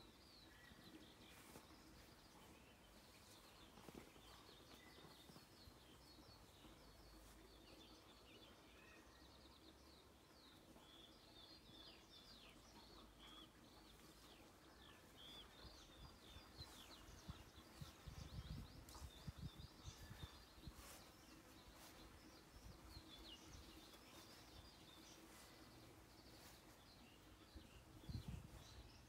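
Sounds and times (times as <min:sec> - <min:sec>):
small birds chirping faintly: 0:00.0 - 0:29.0.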